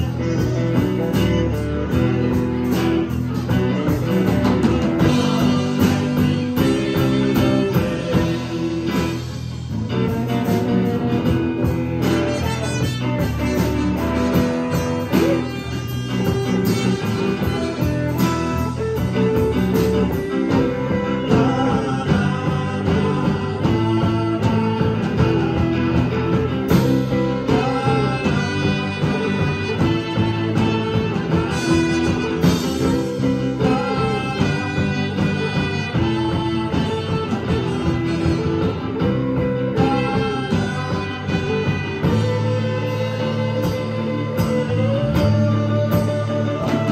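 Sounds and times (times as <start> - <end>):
trumpet: 0.0 - 9.2, 10.0 - 46.9
bass guitar: 0.0 - 46.9
drum kit: 0.0 - 46.9
electric guitars: 0.0 - 46.9.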